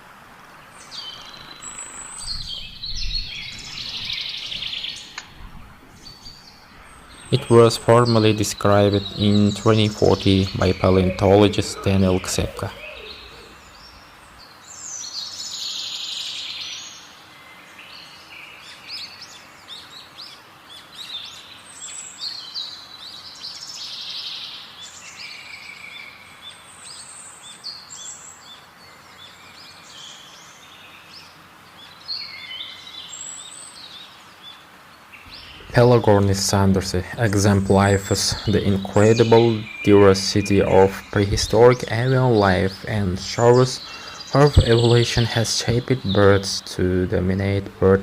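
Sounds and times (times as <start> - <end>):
background hiss: 0.0 - 48.0
birds chirping and calling: 0.5 - 48.0.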